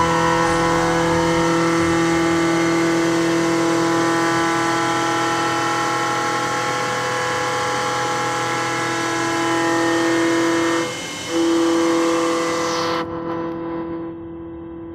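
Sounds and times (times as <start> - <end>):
machine whining: 0.0 - 14.9.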